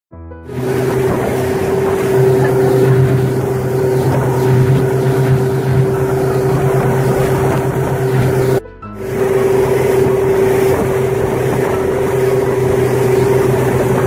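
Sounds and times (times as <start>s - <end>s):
motorboat engine droning: 0.5s - 14.0s
rushing wake water: 0.5s - 14.0s.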